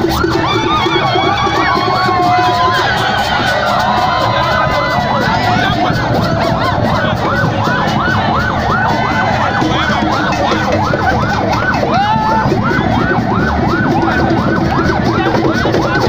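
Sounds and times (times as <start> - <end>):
crowd celebrating: 0.0 - 16.0
siren yelping: 0.0 - 16.0.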